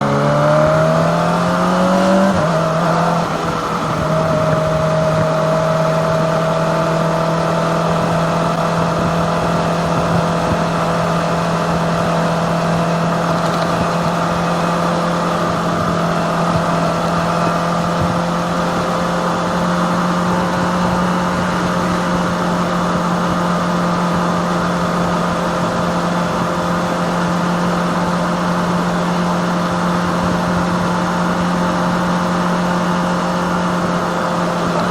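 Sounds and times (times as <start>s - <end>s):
gear change: 0.0s - 34.9s
motorcycle engine revving: 0.0s - 34.9s.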